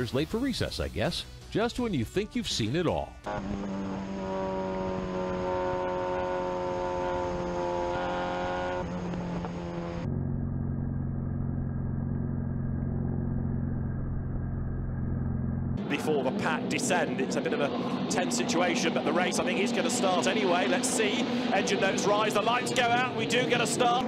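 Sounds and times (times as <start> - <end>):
race car engine running: 3.2 - 24.0.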